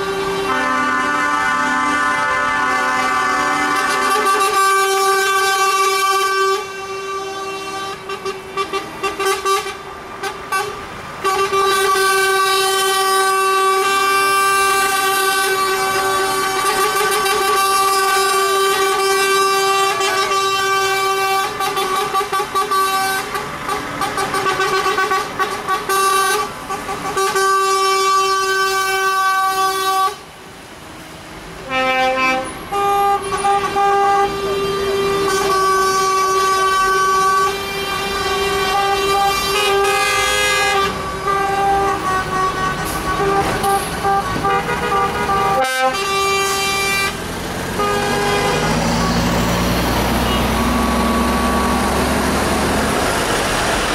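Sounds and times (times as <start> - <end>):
truck air horns blasting: 0.0 - 30.4, 31.6 - 53.9.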